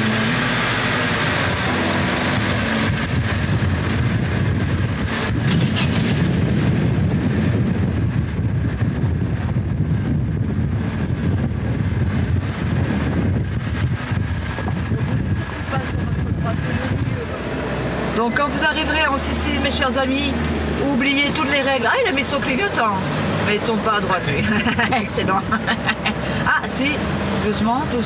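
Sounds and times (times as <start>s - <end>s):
van engine and road noise: 0.0s - 28.0s.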